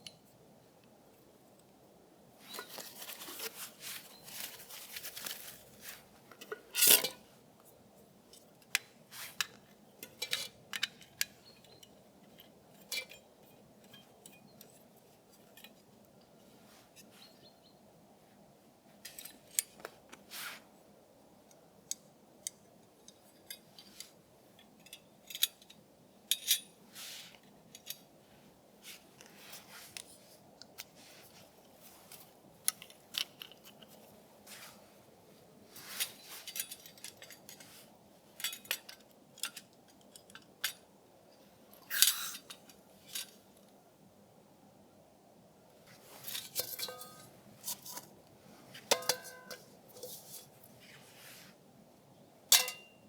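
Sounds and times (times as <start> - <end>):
faint steady hiss: 0.0 - 53.0.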